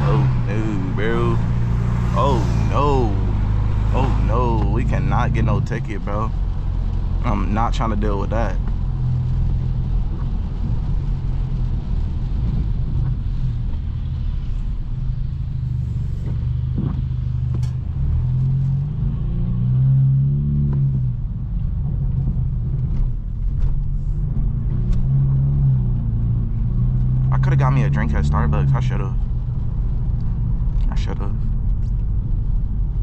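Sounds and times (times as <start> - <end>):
car exhaust droning: 0.0 - 33.0.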